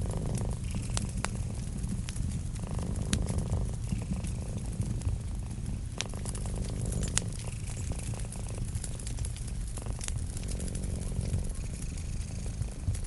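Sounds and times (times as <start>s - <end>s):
cat purring: 0.0s - 13.0s
wood fire crackling and popping: 0.0s - 13.0s.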